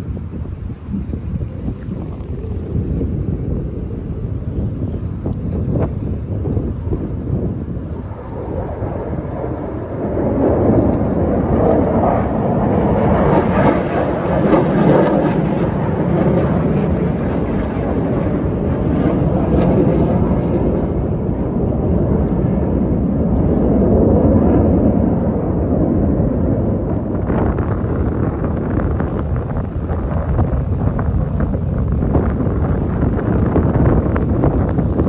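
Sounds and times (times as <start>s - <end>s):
jets flying overhead: 0.0s - 35.0s.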